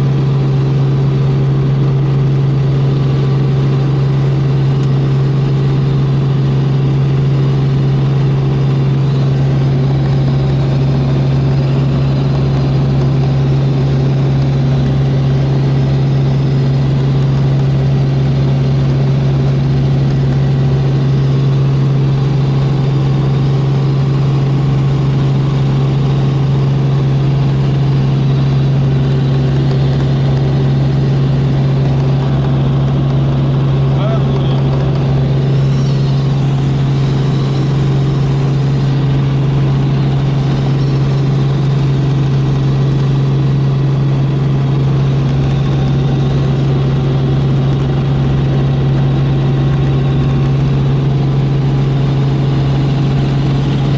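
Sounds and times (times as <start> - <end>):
helicopter engine and rotors: 0.0 - 53.9.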